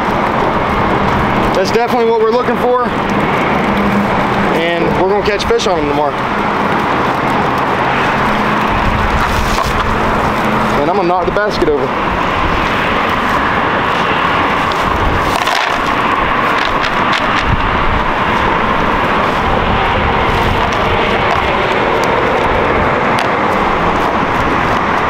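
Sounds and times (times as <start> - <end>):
traffic rumble: 0.0 - 25.0
wind across microphone: 0.0 - 25.0.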